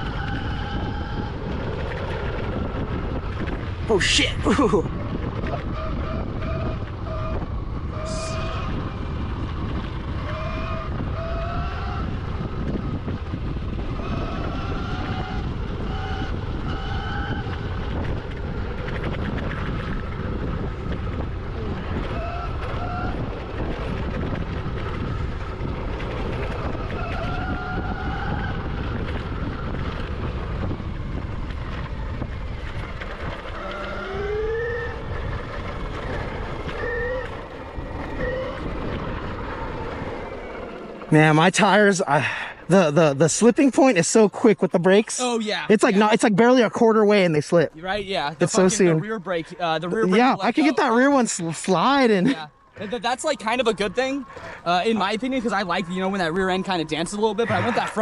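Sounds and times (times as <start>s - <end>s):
wind buffeting: 0.0s - 58.0s.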